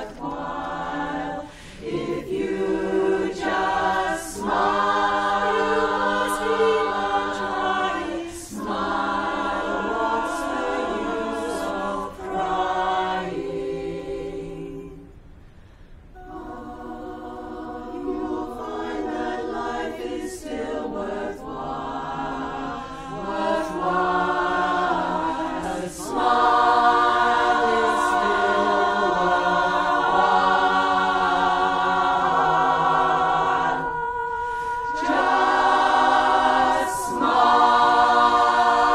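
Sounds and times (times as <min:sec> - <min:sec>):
women's chorus singing a cappella: 0:00.0 - 0:15.2, 0:16.1 - 0:38.9.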